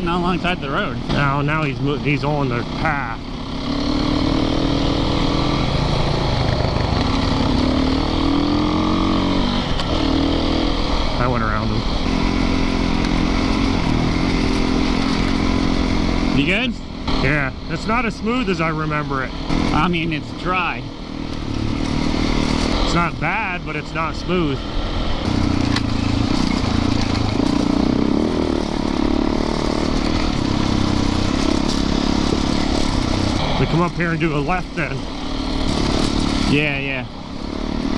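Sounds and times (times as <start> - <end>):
dirt bike engine running: 0.0 - 37.9.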